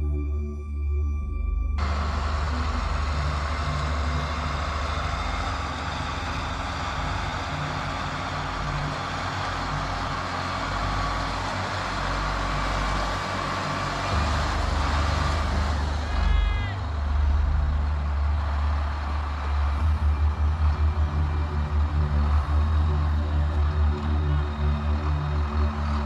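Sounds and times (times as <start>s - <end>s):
diesel machinery rumbling: 1.8s - 26.0s.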